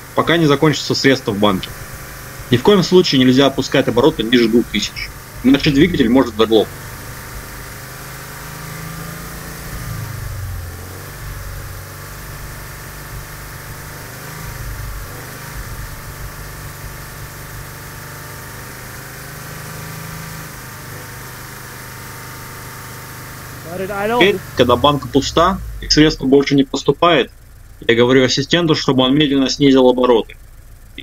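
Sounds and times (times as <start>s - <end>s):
car engine running steadily: 0.0s - 31.0s.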